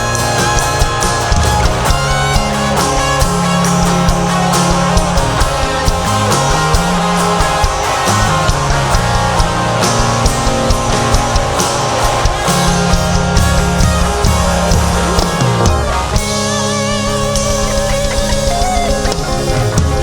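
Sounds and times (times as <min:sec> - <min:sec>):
bass guitar: 0:00.0 - 0:20.0
drum kit: 0:00.0 - 0:20.0
electric guitar: 0:00.0 - 0:20.0
lead guitar line with vibrato: 0:00.0 - 0:20.0.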